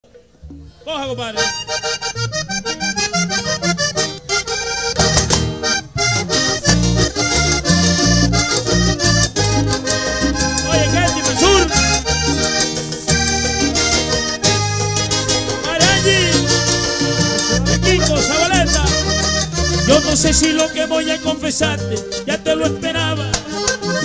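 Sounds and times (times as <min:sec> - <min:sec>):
accordion melody: 0:00.1 - 0:24.0
band playing: 0:00.1 - 0:24.0.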